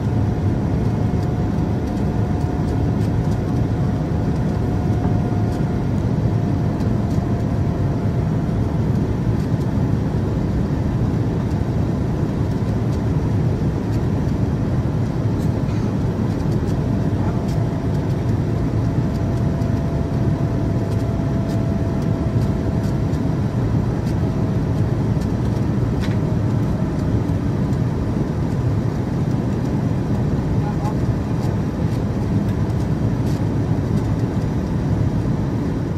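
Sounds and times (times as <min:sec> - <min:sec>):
faint engine whine: 0:00.0 - 0:35.9
jet engine rumble in cabin: 0:00.0 - 0:35.9.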